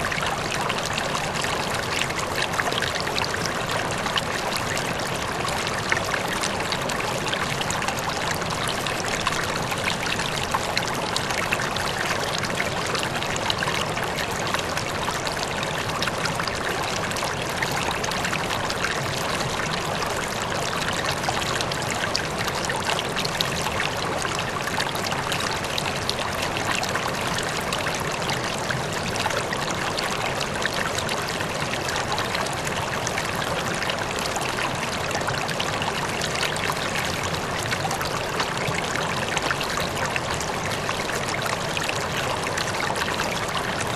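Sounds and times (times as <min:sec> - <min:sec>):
river water flowing over rocks: 0:00.0 - 0:43.9.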